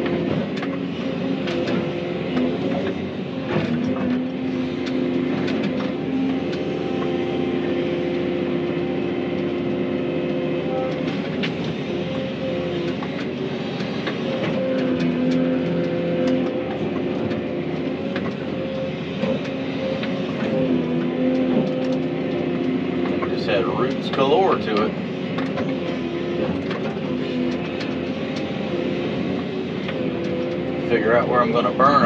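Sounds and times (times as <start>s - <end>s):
excavator diesel engine: 0.0s - 32.0s
hydraulics whining: 0.0s - 32.0s.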